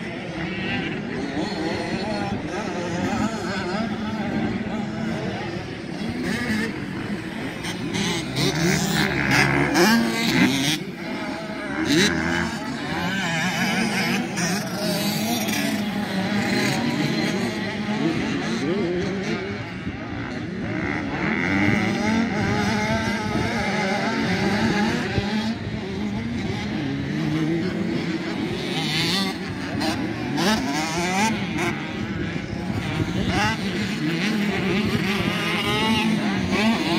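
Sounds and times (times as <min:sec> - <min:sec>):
motocross bike engines revving: 0:00.0 - 0:36.9.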